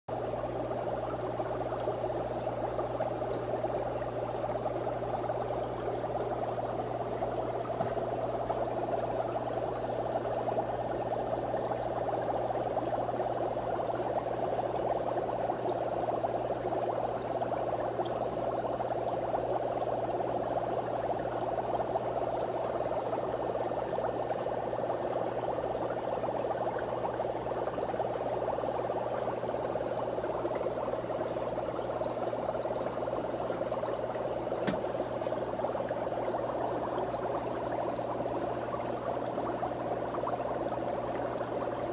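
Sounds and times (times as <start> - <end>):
water bubbling: 0.1 - 41.9.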